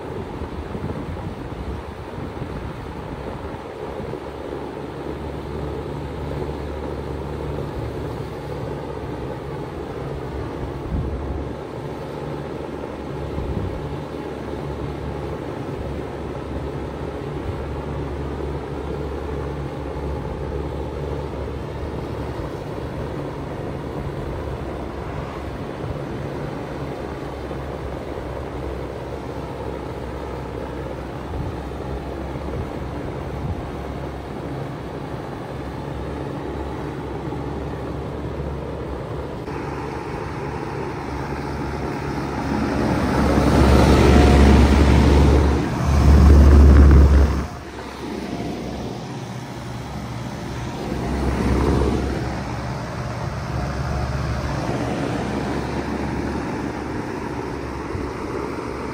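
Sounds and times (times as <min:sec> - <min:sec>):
fan blowing: 0:00.0 - 0:58.9
heat pump compressor humming: 0:00.0 - 0:58.9.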